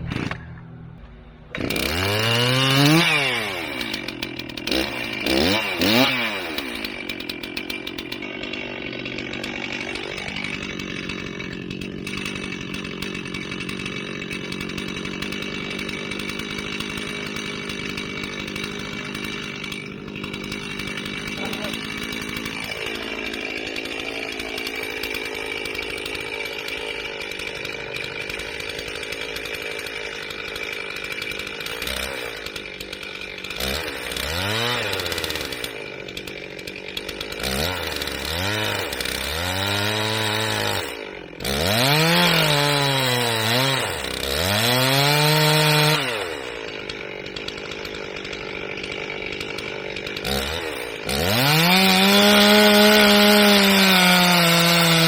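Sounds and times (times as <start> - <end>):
chainsaw engine revving and idling: 1.5 - 55.0.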